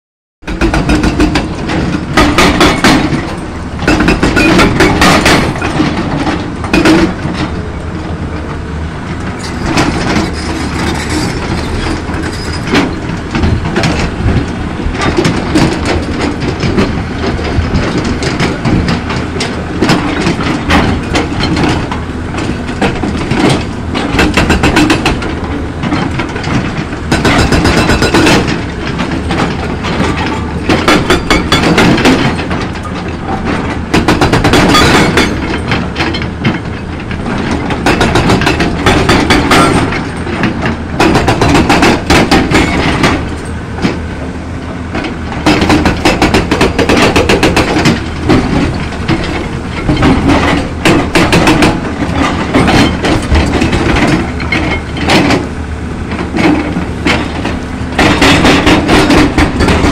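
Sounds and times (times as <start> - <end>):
hydraulic rock breaker hammering: 0.4 - 7.7, 9.4 - 44.0, 44.9 - 59.9
diesel engine running: 0.5 - 59.9.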